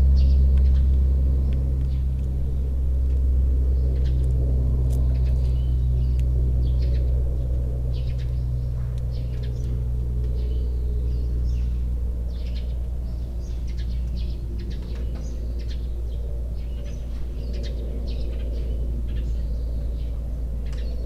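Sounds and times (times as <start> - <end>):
sparrows chirping: 0.0 - 21.0
steady low rumble: 0.0 - 21.0.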